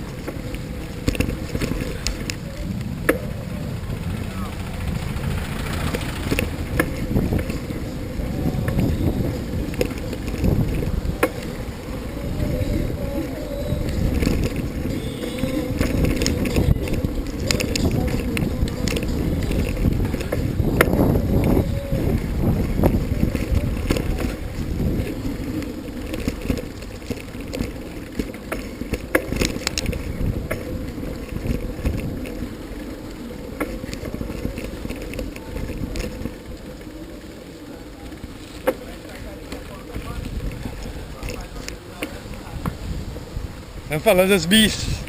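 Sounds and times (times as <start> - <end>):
wind rushing over microphone: 0.0 - 38.4, 39.1 - 45.0
bicycle clicks and rattles: 0.0 - 44.9
road rumble: 0.0 - 45.0.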